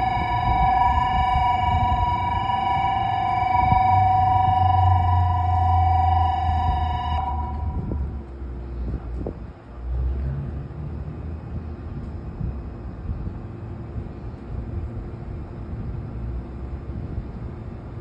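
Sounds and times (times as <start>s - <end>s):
train equipment low rumble: 0.0s - 18.0s.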